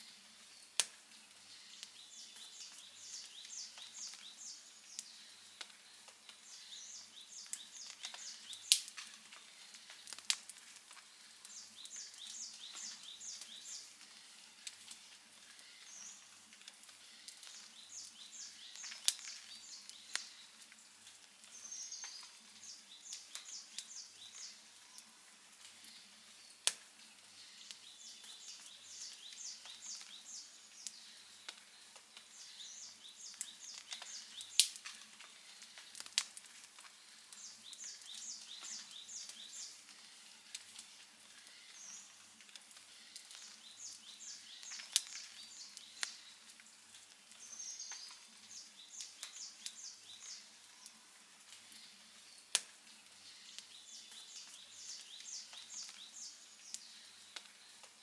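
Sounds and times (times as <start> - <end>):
campfire crackling and popping: 0.0 - 50.7, 51.3 - 58.0.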